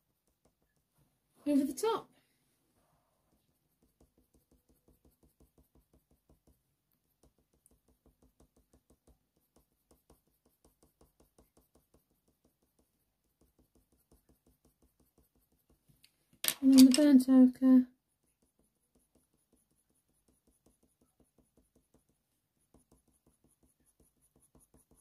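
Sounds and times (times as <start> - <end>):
pencil scratching on paper: 2.8 - 15.9, 17.9 - 25.0.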